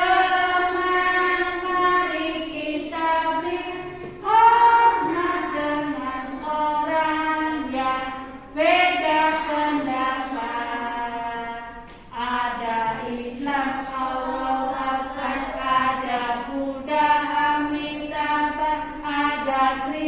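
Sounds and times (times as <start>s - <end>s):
children singing: 0.0s - 20.0s.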